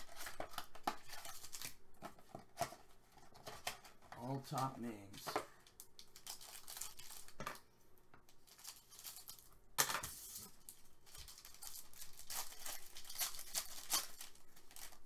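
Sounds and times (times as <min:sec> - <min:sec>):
foil pack tearing and crinkling: 0:00.0 - 0:04.0, 0:05.7 - 0:07.4, 0:08.4 - 0:15.0.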